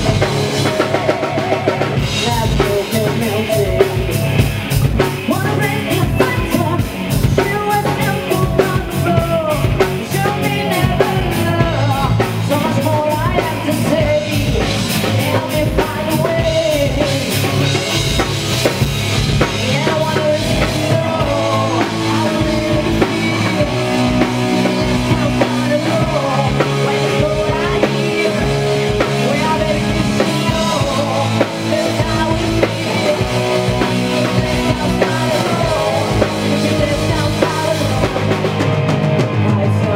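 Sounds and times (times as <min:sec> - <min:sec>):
female lead vocals: 0:00.0 - 0:17.8, 0:19.2 - 0:39.9
bass: 0:00.0 - 0:39.9
distorted electric guitars: 0:00.0 - 0:39.9
keyboards: 0:00.0 - 0:39.9
pounding drum kit: 0:00.0 - 0:39.9.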